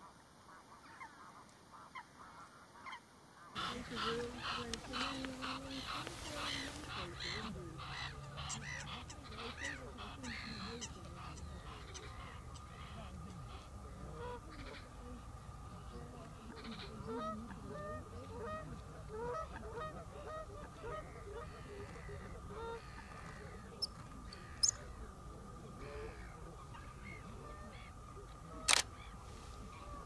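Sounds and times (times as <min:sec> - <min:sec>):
water birds honking: 0:00.0 - 0:30.0.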